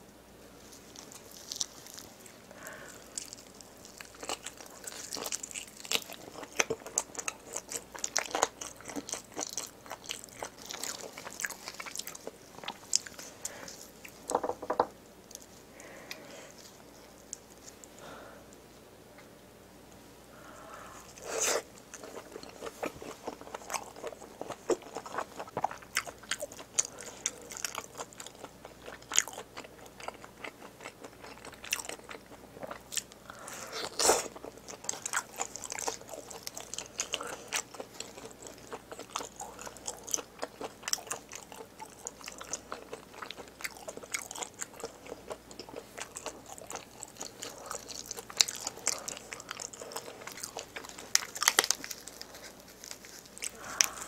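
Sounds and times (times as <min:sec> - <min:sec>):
chewing with clicks and smacks: 0:00.8 - 0:14.4, 0:21.8 - 0:54.0.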